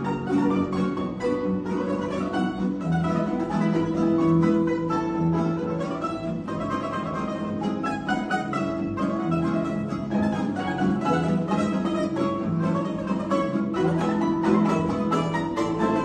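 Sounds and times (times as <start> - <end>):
plucked string quartet: 0.0 - 16.0.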